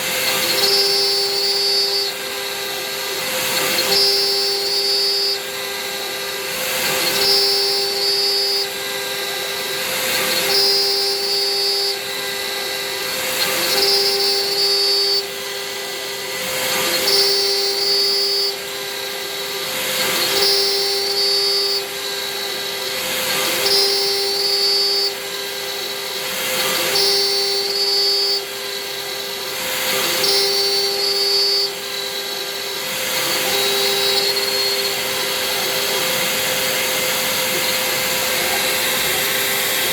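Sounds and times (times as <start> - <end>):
stepper motors whining: 0.0 - 39.9.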